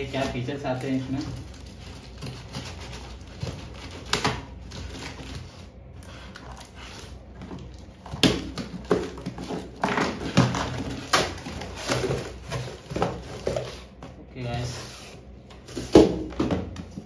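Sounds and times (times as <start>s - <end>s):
packing tape tearing: 0.0s - 13.7s
cardboard crackling: 0.0s - 16.4s.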